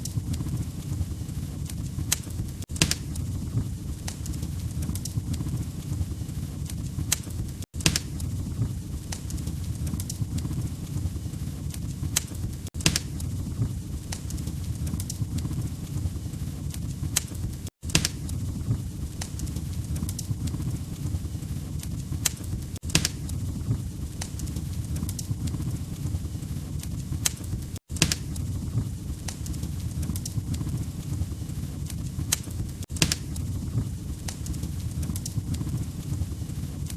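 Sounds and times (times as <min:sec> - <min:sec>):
low rumble of fire: 0:00.0 - 0:36.9
wood fire crackling: 0:00.0 - 0:36.9.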